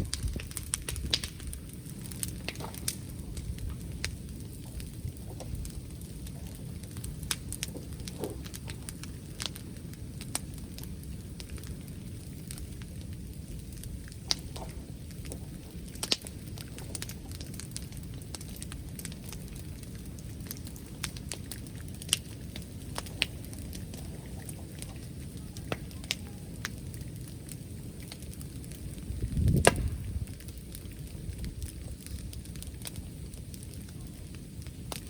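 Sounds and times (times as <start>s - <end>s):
bonfire crackling and popping: 0.0s - 35.0s.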